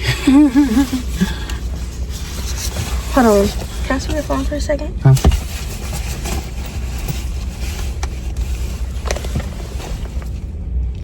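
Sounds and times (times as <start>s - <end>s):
car engine idling: 0.0s - 11.0s
car heater running: 0.0s - 11.0s.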